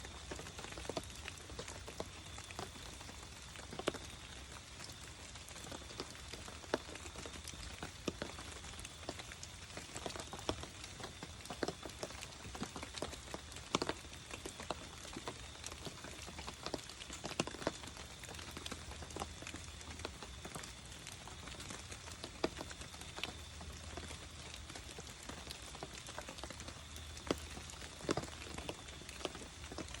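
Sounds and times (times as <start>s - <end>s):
campfire crackling and popping: 0.0s - 30.0s
low steady hiss: 0.0s - 30.0s.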